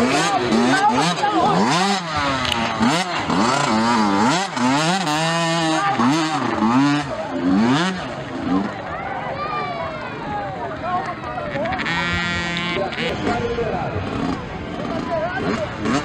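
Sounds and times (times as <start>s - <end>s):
motocross bike engine revving: 0.0s - 9.1s, 11.4s - 16.0s.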